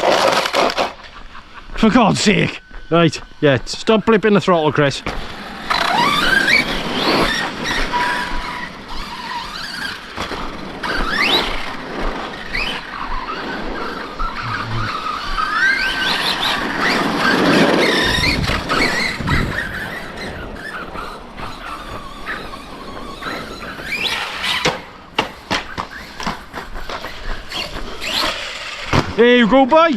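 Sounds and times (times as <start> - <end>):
electric motors whining: 0.0 - 29.1.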